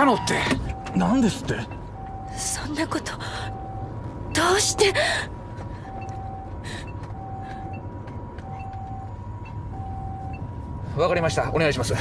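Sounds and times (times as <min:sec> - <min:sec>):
two-tone ambulance siren: 0:00.0 - 0:12.0
vehicle rumble: 0:00.0 - 0:12.0.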